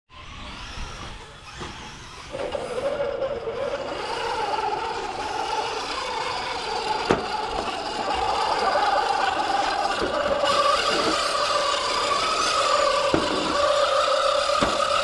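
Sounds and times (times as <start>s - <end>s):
toy truck motor whining: 0.1s - 15.0s.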